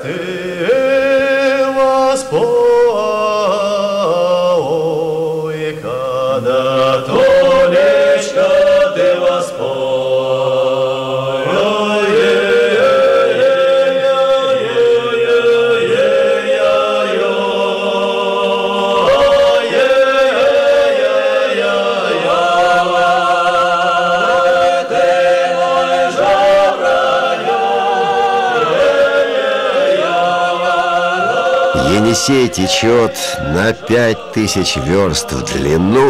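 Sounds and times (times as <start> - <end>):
choir singing unaccompanied: 0.0 - 36.0.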